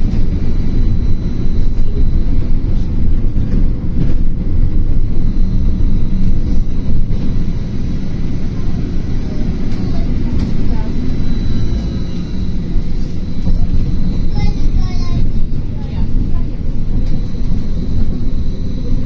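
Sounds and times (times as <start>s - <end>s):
trolleybus interior rumble: 0.0s - 19.0s.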